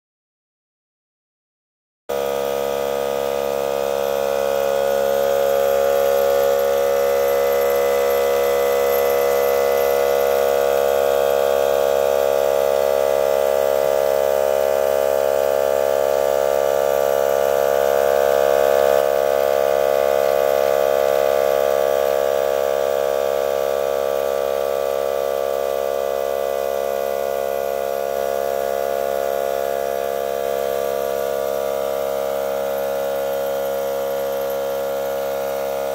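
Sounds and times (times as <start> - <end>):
air compressor motor hum: 2.1 - 35.9.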